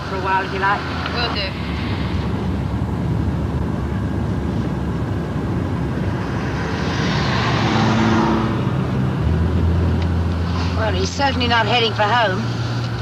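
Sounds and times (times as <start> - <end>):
car engine hum: 0.0 - 13.0
road noise inside car: 0.0 - 13.0.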